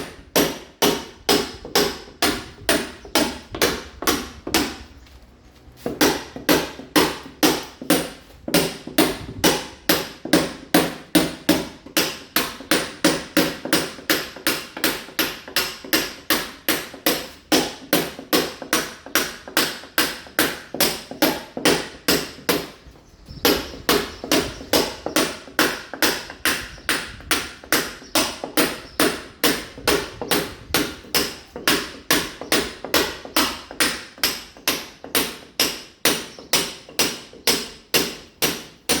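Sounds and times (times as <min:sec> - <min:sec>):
hammer striking chisel on masonry: 0:00.0 - 0:05.0, 0:05.8 - 0:39.0.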